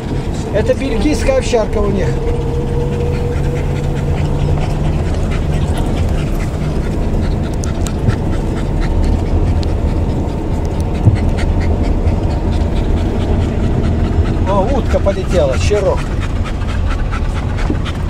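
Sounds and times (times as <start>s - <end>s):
car rumble: 0.0s - 18.0s
dog panting: 0.0s - 18.0s.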